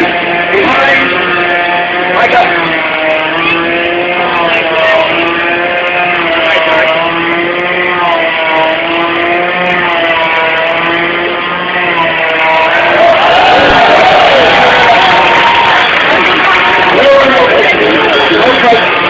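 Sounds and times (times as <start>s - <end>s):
chainsaw engine running: 0.0s - 19.0s.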